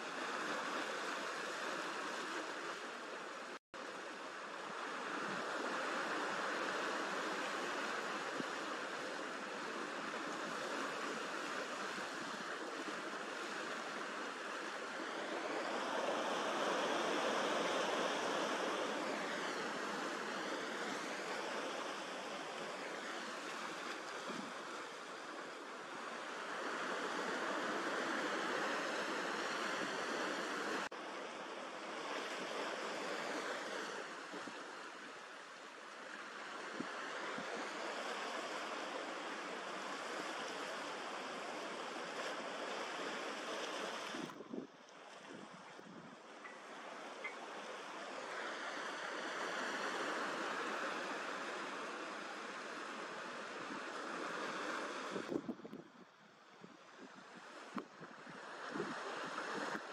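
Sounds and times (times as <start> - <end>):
waves washing onto stony shore: 0.0 - 59.9.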